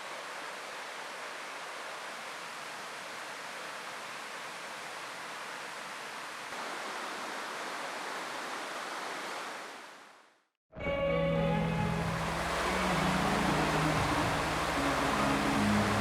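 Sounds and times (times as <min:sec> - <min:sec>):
mountain river flowing: 0:00.0 - 0:10.3, 0:11.6 - 0:16.0.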